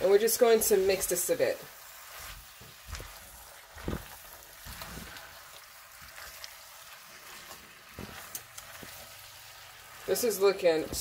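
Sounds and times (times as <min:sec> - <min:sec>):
chicken and onions sizzling: 0:00.0 - 0:11.0.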